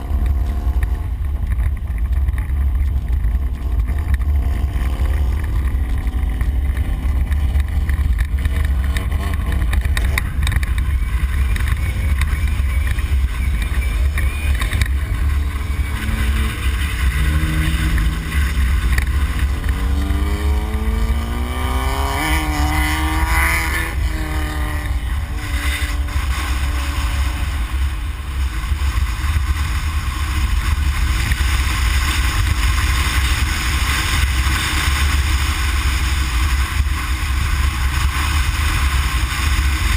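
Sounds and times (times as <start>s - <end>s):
truck rumbling over rough ground: 0.0s - 39.9s.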